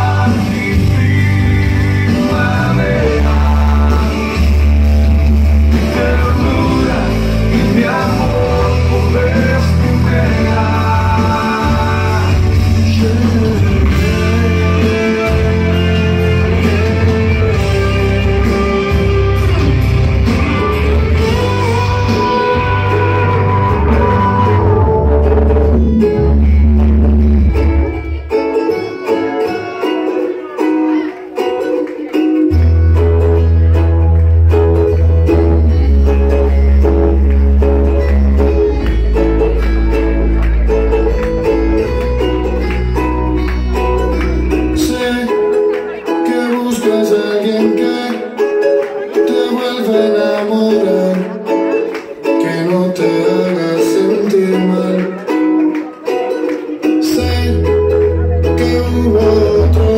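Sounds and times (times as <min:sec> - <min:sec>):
bass line: 0:00.0 - 0:59.9
guitar: 0:00.0 - 0:59.9.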